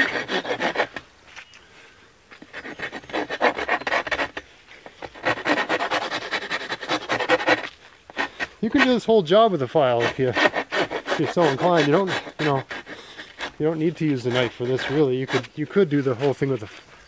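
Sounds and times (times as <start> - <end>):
hand file scraping wood: 0.0 - 1.0, 2.3 - 16.9.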